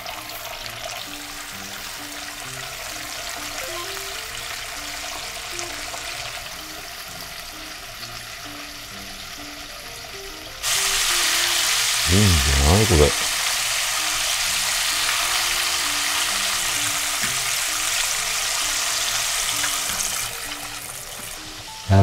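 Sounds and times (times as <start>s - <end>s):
chicken deep-frying in oil: 0.0s - 21.9s
quiet background music: 0.0s - 22.0s.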